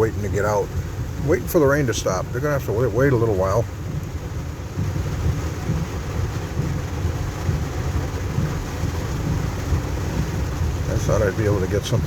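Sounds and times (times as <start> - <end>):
heavy rain on car roof: 0.0 - 12.0
low rumble of moving car: 0.0 - 12.0.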